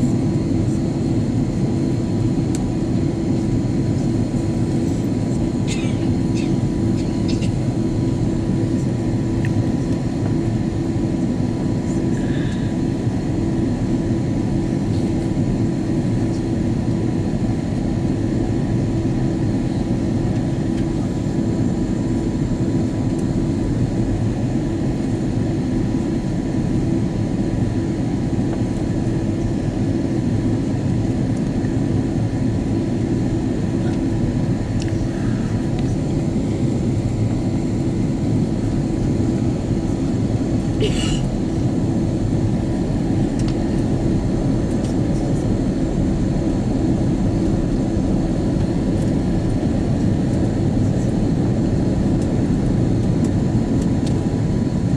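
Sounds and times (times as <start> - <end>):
airplane engine and airflow noise: 0.0 - 54.9.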